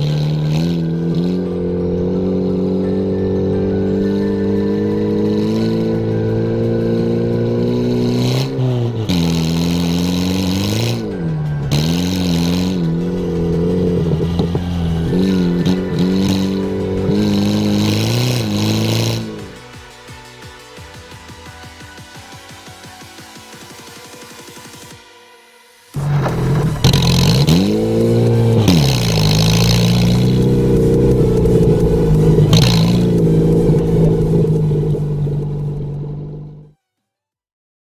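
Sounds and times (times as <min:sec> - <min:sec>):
car engine revving: 0:00.0 - 0:19.7, 0:25.9 - 0:36.7.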